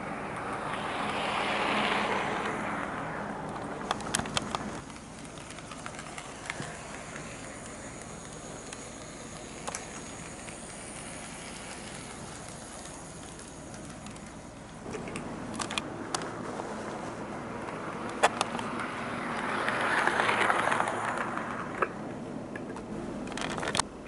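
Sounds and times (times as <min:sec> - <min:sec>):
model train motor hum: 0:00.0 - 0:17.0, 0:17.9 - 0:21.8
wheel rumble: 0:00.0 - 0:24.0
wheels clicking over rail joints: 0:00.0 - 0:24.0.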